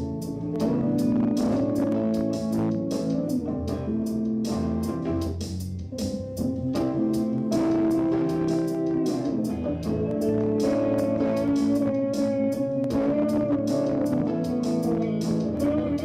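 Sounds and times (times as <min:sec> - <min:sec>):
bass line: 0:00.0 - 0:16.0
melodic guitar notes: 0:00.0 - 0:16.0
steady drum beat: 0:00.0 - 0:16.0.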